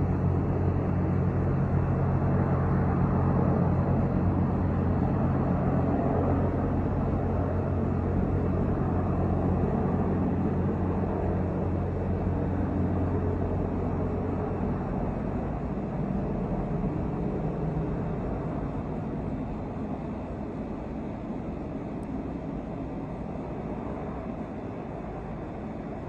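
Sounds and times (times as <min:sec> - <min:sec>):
helicopter rotor and engine drone: 0:00.0 - 0:26.0.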